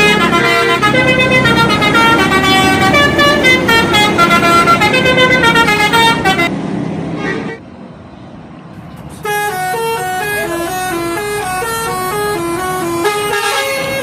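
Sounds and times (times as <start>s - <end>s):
musical bus air horn melody: 0.0s - 6.5s, 9.1s - 14.0s.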